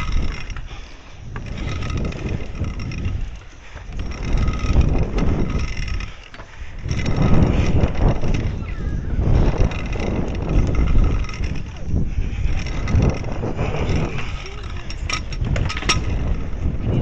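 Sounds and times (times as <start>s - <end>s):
scooter wheels rolling on concrete: 0.0s - 17.0s
wind buffeting microphone: 0.0s - 17.0s.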